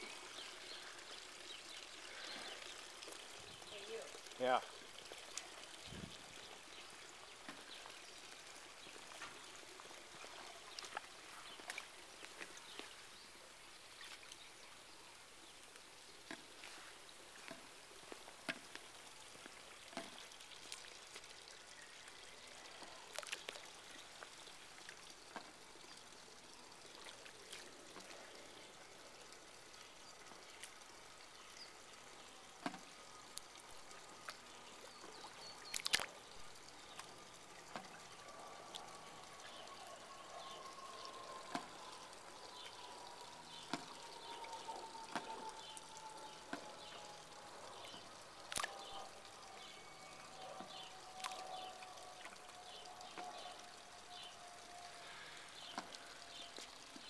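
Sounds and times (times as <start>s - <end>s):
pool water sloshing and lapping: 0.0s - 57.0s.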